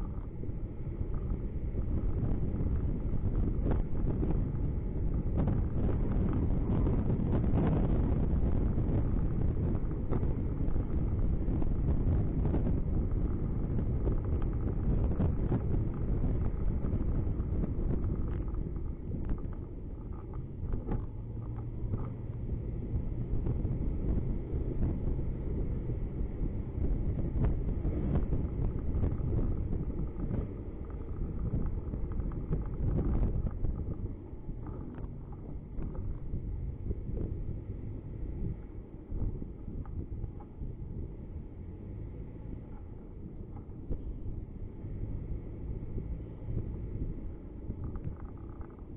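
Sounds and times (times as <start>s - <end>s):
car engine and tyre rumble: 0.0s - 48.9s
wind buffeting microphone: 0.0s - 48.9s.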